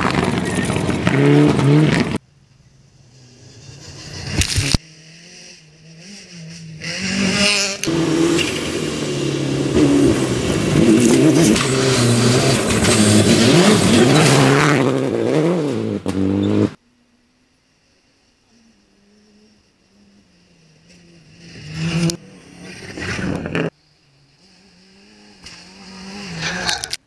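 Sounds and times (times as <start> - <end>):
rally car engine revving: 0.0 - 2.2, 3.1 - 16.8, 19.2 - 27.0.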